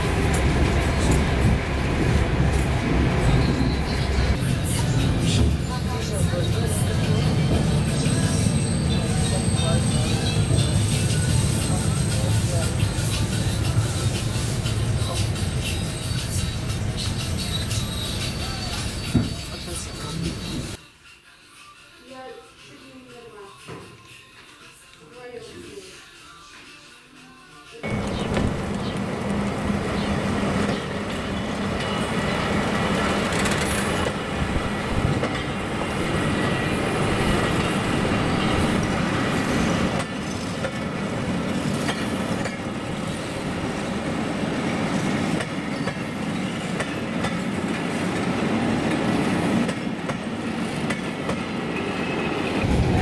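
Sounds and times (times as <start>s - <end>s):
train wheels rumbling on rails: 0.0s - 20.8s, 27.9s - 53.0s.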